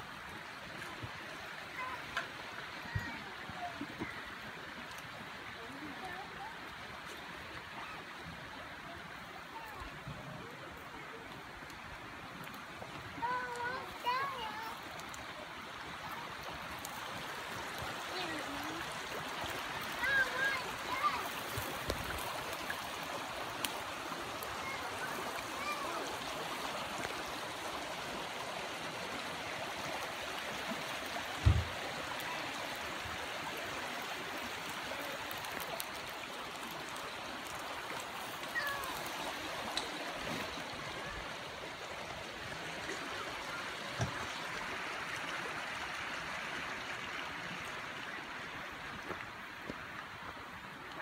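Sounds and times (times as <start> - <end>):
creek rushing over stones: 0.0 - 51.0.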